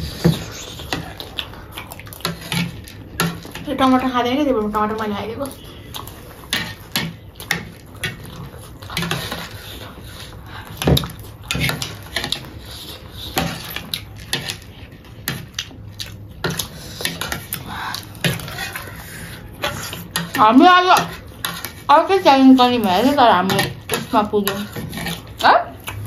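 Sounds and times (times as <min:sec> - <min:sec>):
metal spoons scraping paper plates: 0:02.2 - 0:15.7, 0:16.4 - 0:26.0.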